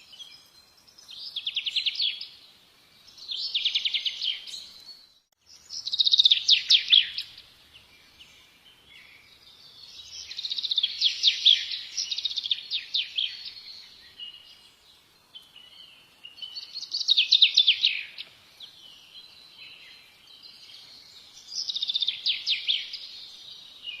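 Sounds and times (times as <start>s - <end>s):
songbird singing rapid notes: 0.0s - 24.0s.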